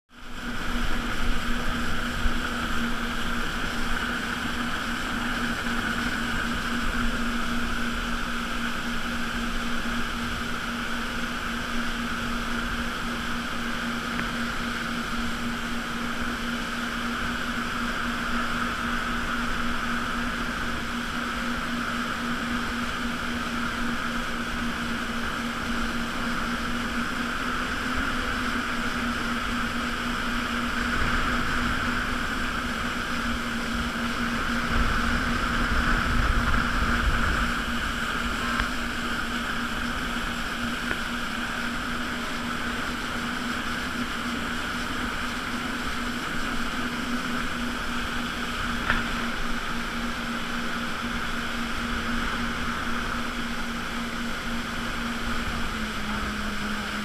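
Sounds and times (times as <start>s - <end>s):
jet ski engine drone: 0.1s - 57.0s.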